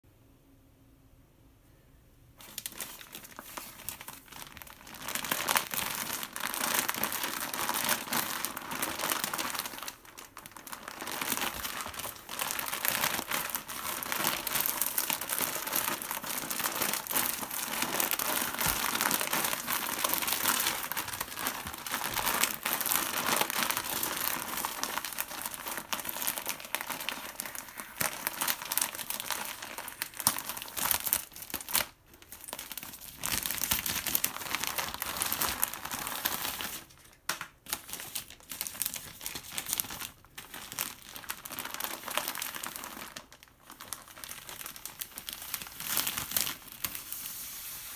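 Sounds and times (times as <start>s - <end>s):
plastic wrapper crinkling: 2.4s - 47.9s.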